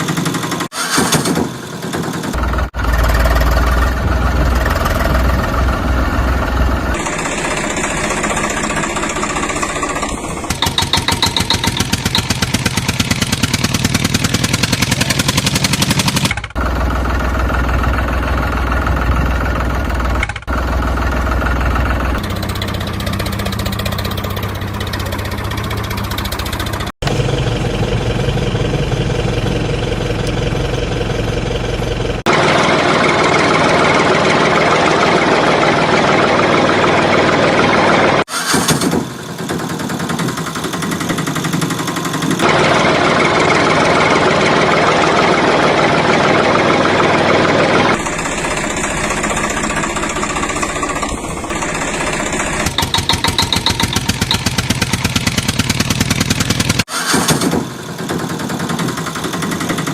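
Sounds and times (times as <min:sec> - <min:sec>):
tractor engine chugging: 0:00.0 - 0:59.9.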